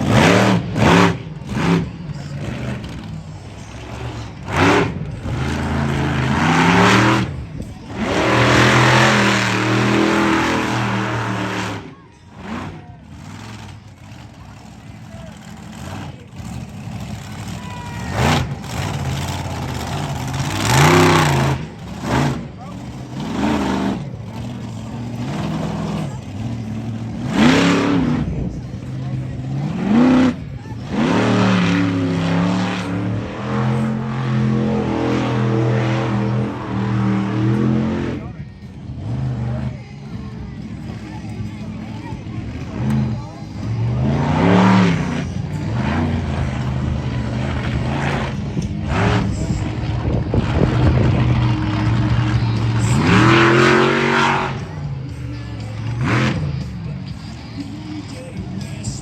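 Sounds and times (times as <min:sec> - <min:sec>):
vehicle engine revving hard: 0:00.0 - 0:03.0, 0:03.6 - 0:14.2, 0:15.0 - 0:39.7, 0:42.5 - 0:56.7.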